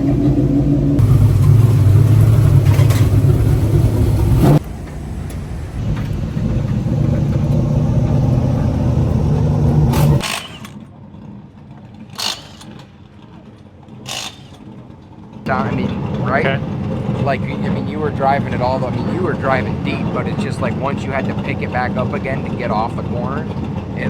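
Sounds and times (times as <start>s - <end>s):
race car engine running: 0.0s - 10.4s, 14.1s - 24.0s.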